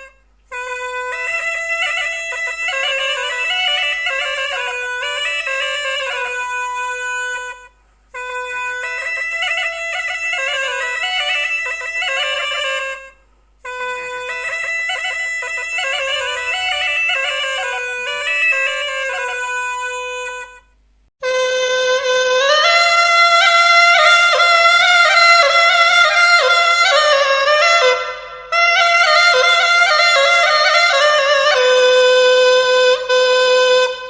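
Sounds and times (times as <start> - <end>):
cane pipe playing folk melody: 0.0 - 34.0.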